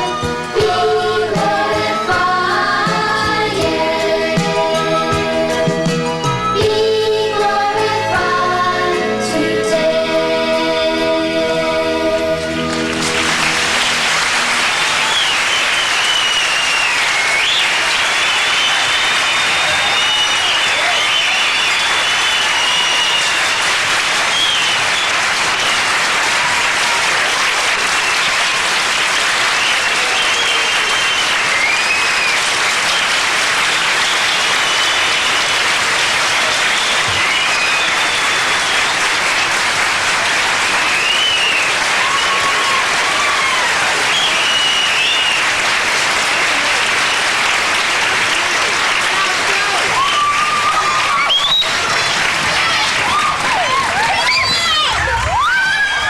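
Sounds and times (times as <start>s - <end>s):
audience applauding: 0.0s - 6.7s, 11.7s - 56.0s.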